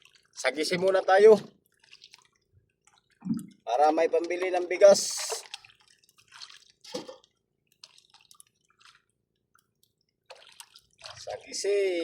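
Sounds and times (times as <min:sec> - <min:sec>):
water drips and splashes: 0:00.0 - 0:12.0.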